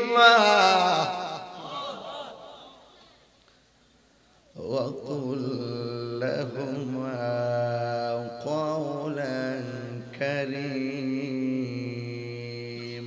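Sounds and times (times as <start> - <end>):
man singing devotional song: 0.0 - 2.9, 4.5 - 13.0.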